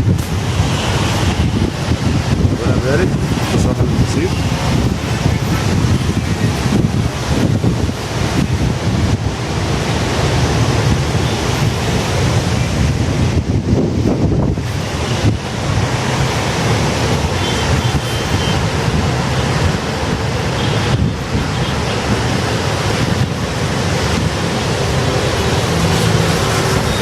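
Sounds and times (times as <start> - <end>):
sea surf rushing: 0.0 - 27.0
wind buffeting microphone: 0.0 - 27.0.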